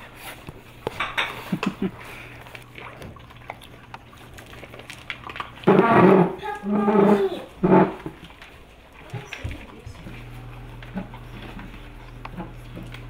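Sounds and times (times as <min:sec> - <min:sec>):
puppies crunching dry kibble: 0:00.0 - 0:13.0.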